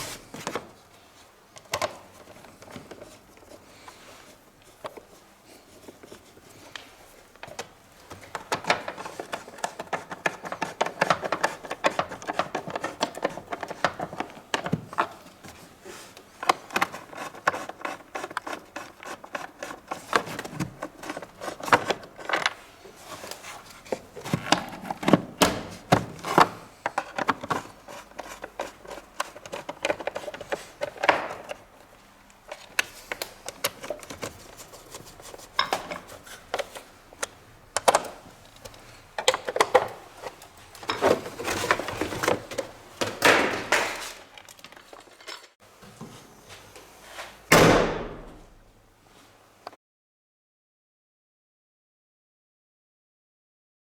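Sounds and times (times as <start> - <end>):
plastic parts clicking and rubbing: 1.5 - 45.6.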